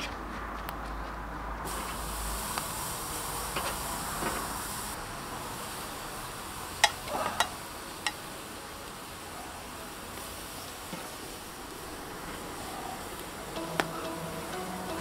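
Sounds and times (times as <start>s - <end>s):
meat sizzling on grill: 1.7s - 15.0s.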